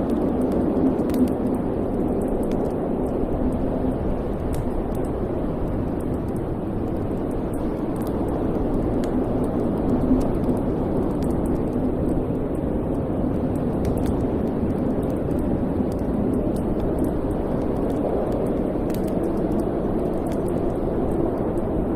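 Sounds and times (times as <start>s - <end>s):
fire crackling and popping: 0.0s - 21.9s
fire rumbling: 0.0s - 21.9s.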